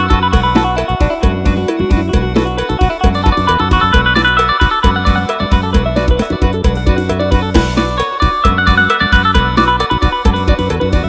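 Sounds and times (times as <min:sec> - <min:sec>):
electronic organ dance music: 0:00.0 - 0:11.0.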